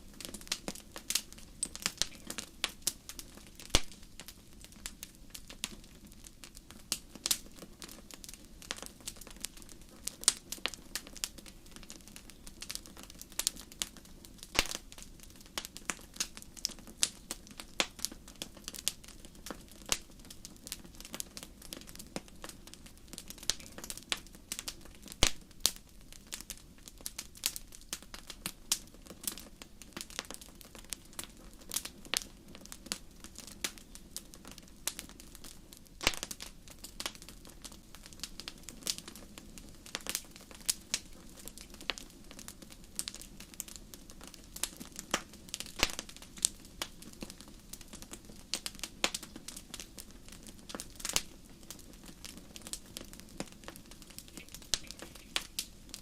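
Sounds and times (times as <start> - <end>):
campfire crackling and popping: 0.0 - 56.0
low rumble of flame: 0.0 - 56.0.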